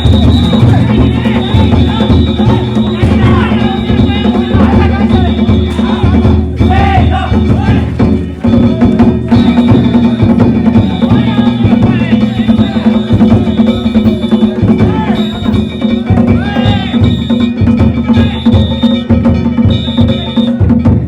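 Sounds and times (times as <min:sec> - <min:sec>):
people shouting: 0:00.0 - 0:19.0
metal gongs clanging: 0:00.0 - 0:20.6
taiko drum beating: 0:00.0 - 0:21.0.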